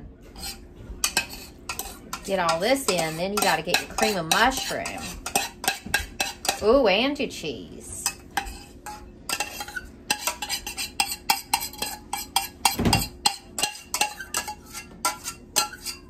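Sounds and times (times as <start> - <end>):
spoon clinking in a dish: 0.4 - 6.6, 8.0 - 16.0.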